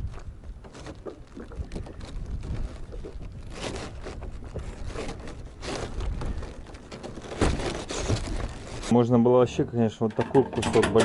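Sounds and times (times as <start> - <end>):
objects rustling and scraping: 0.0 - 9.1, 9.9 - 11.0.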